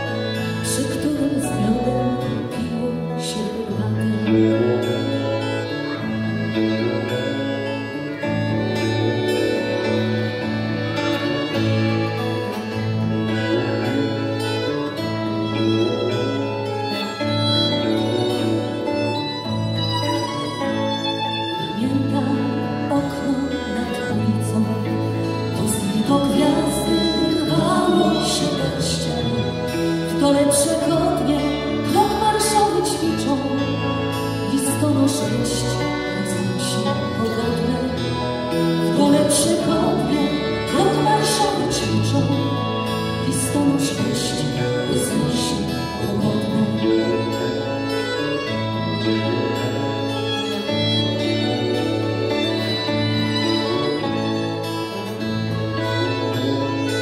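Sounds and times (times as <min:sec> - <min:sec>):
accordion: 0:00.0 - 0:57.0
acoustic guitar: 0:00.0 - 0:57.0
electric guitar: 0:00.0 - 0:57.0
violin: 0:00.0 - 0:57.0.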